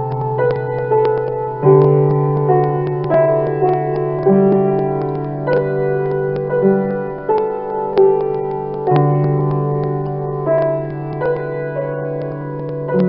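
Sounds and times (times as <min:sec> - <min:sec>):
slow piano carol: 0:00.0 - 0:13.0.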